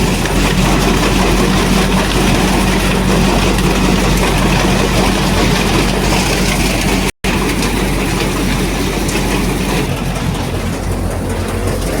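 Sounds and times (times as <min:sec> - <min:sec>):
thresher clattering: 0:00.0 - 0:12.0
tractor engine humming: 0:00.0 - 0:12.0.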